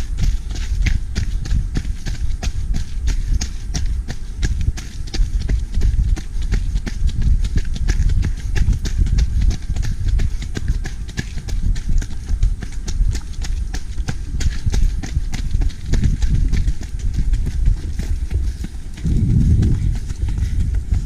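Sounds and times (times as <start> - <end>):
running footsteps on gravel: 0.0 - 21.0
wind buffeting microphone: 0.0 - 21.0.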